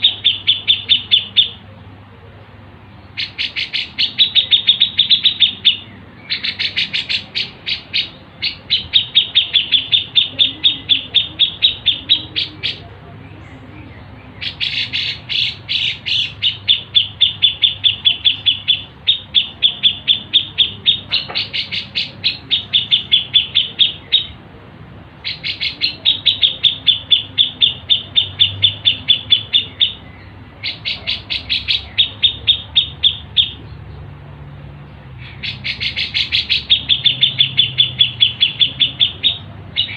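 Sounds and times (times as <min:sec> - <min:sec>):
songbird chirping sharp notes: 0:00.0 - 0:39.9.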